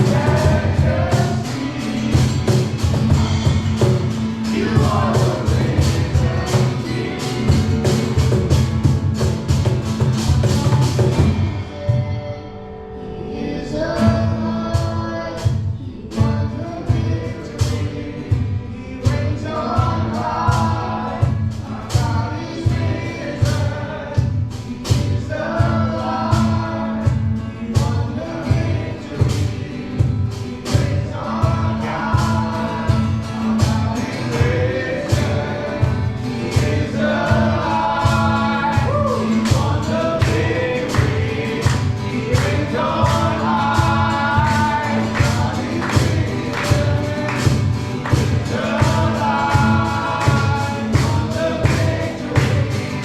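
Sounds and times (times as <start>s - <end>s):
band with steady beat: 0.0s - 11.8s, 14.2s - 53.0s
voices singing together: 0.0s - 53.0s.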